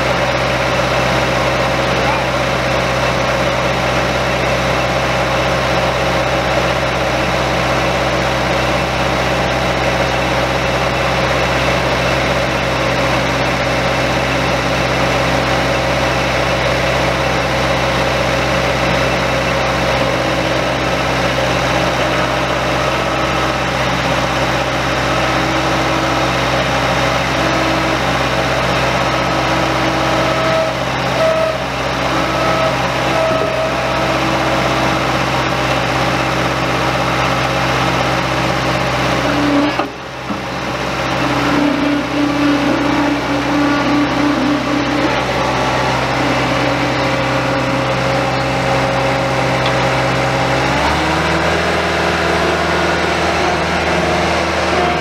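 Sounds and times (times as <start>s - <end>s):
hydraulic whine: 0.0s - 55.0s
skid steer engine running: 0.0s - 55.0s.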